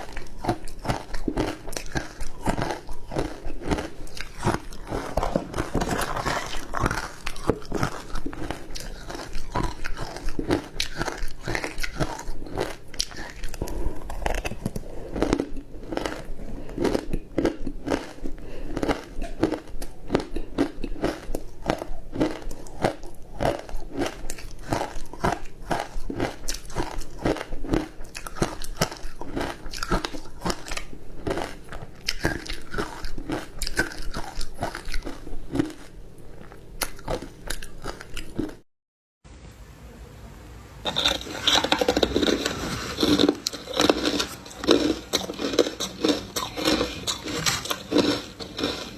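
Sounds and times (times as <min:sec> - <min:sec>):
person crunching ice: 0:00.0 - 0:38.6, 0:40.9 - 0:48.9.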